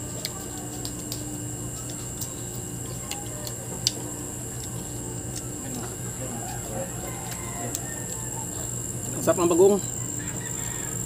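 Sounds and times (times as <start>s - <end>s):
faint background hum: 0.0s - 11.0s
person chewing crunchy fruit: 0.0s - 11.0s.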